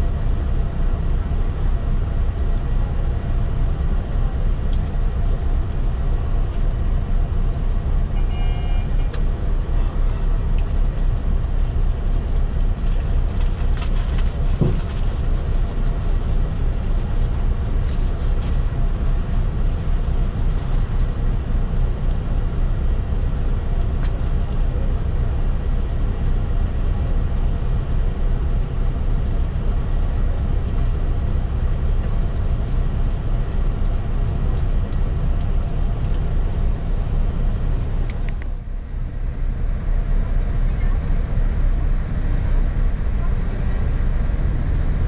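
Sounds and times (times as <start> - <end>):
bus engine rumble inside cabin: 0.0 - 45.0.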